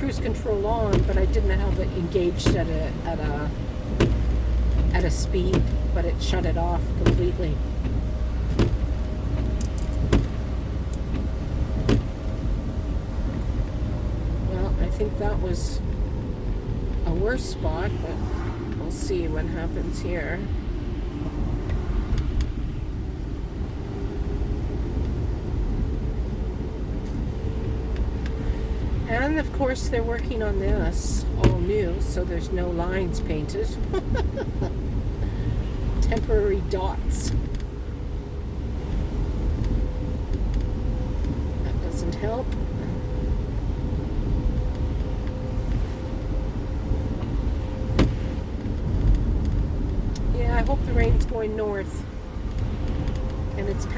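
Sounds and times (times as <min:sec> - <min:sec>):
car cabin road rumble: 0:00.0 - 0:53.9.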